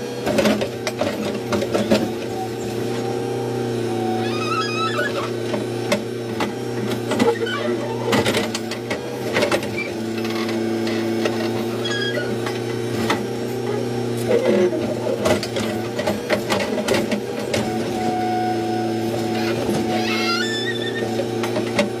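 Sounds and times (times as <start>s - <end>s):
diesel engine under hydraulic load: 0.0s - 22.0s.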